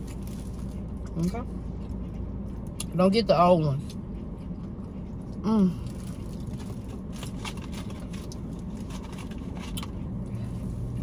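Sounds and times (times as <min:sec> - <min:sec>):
car idling hum: 0:00.0 - 0:11.0
soft eating sounds: 0:00.0 - 0:11.0.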